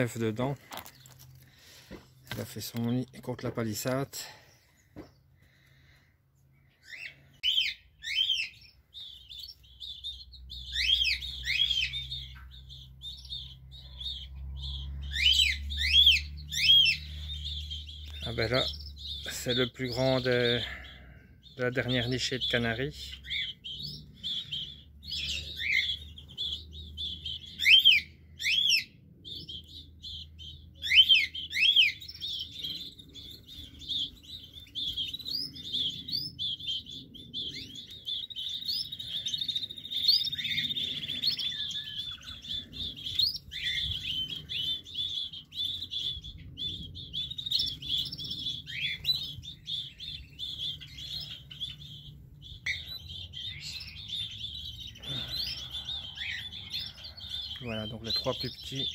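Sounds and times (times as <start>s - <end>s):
loud down-slurred bird calls: 0.0s - 58.9s
songbirds chirping and twittering: 0.0s - 58.9s
trilled bird song: 0.0s - 58.9s.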